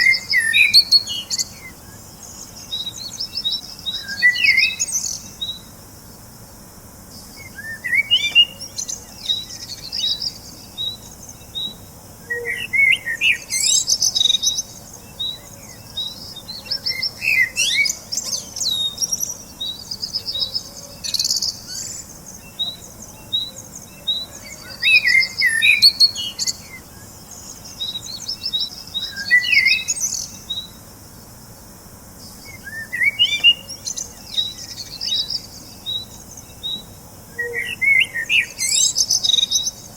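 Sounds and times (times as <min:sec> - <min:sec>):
warbled bird song: 0:00.0 - 0:39.9.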